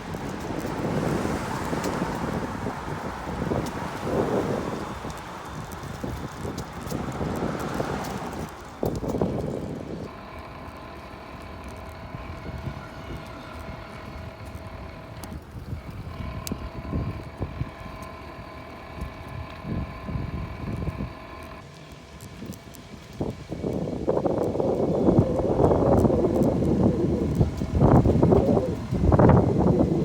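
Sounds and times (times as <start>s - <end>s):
small engine whining drone: 0.0s - 30.0s
wind buffeting microphone: 0.0s - 30.0s.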